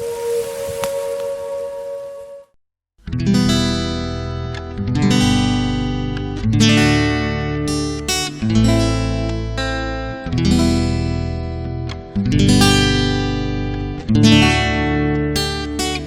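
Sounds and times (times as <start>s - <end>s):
acoustic guitar strumming: 3.1s - 16.0s.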